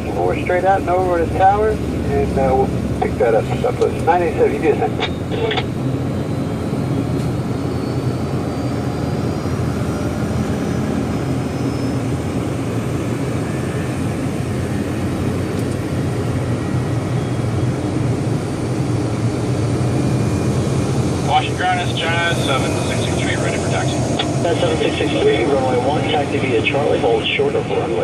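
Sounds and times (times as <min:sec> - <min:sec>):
constant low hum: 0:00.0 - 0:28.0
jet engines running: 0:00.0 - 0:28.0.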